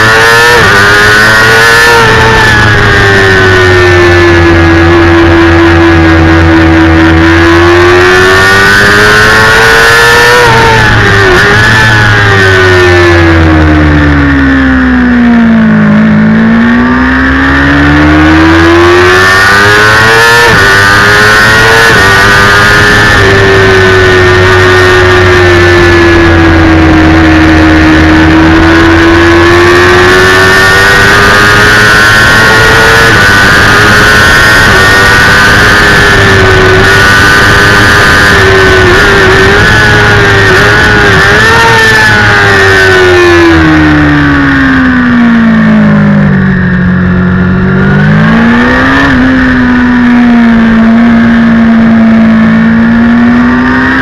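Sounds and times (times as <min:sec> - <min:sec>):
motorcycle engine racing: 0:00.0 - 0:54.0.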